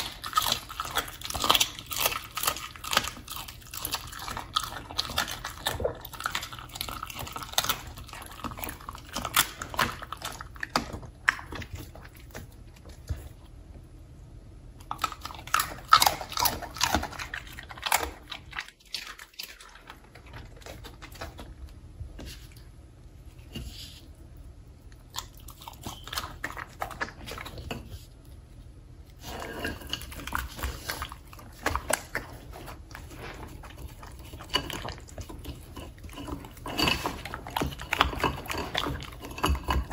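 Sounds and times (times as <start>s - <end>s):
dog chewing and biting meat: 0.0s - 13.5s, 14.8s - 21.9s, 24.9s - 28.5s, 29.1s - 39.9s.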